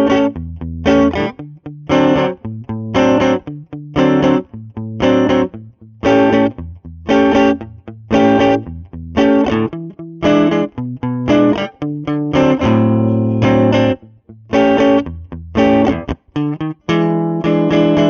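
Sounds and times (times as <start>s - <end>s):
overdriven electric guitar strumming: 0.0s - 18.0s.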